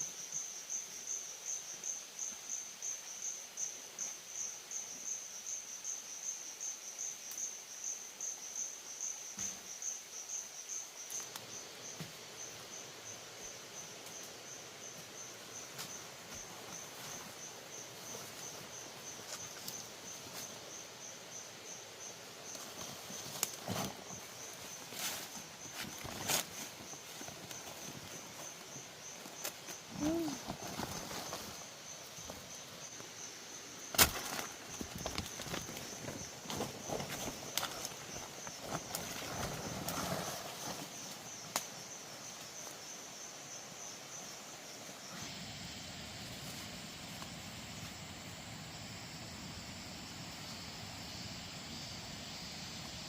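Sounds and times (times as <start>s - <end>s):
cricket chirping trill: 0.0s - 53.0s.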